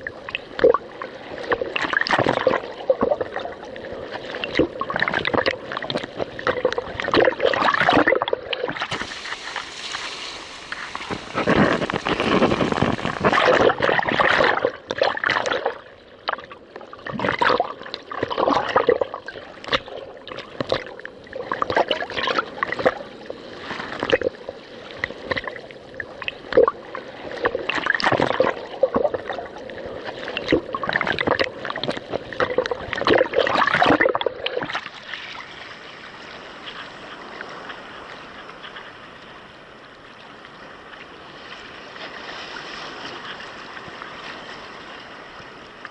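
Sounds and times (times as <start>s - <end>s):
soft steady wash of water: 0.0s - 45.9s
water splashing against kayak hull: 0.0s - 45.9s.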